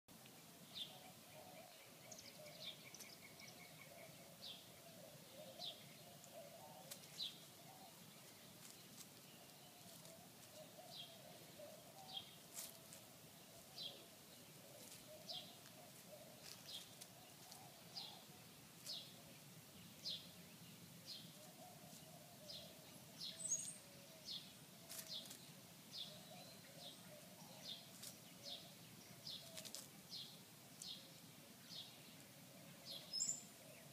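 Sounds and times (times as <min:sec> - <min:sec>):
bird chirping: 0:00.2 - 0:33.9.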